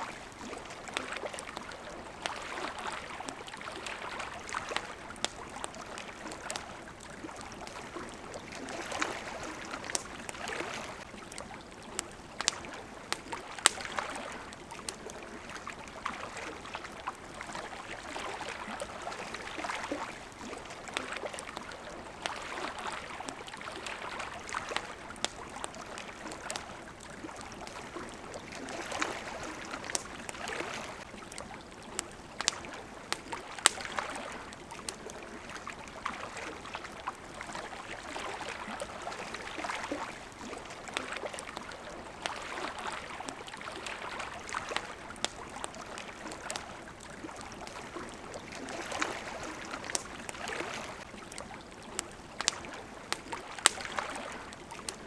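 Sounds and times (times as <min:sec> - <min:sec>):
campfire crackling: 0:00.0 - 0:55.0
water lapping: 0:00.0 - 0:55.0.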